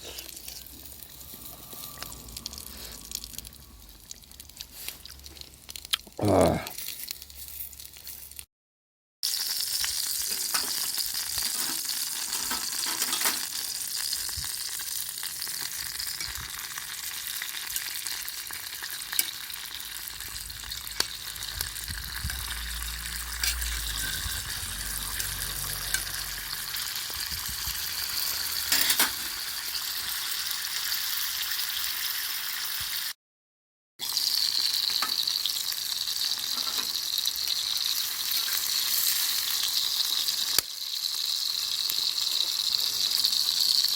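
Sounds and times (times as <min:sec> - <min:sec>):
food sizzling in a pan: 0:00.0 - 0:08.5, 0:09.2 - 0:33.2, 0:34.0 - 0:43.9.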